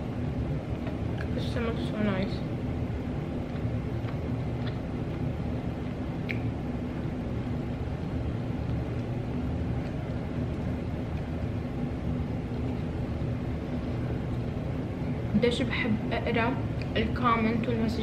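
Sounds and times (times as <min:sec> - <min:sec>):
constant hum: 0:00.0 - 0:18.0
low background rumble: 0:00.0 - 0:18.0.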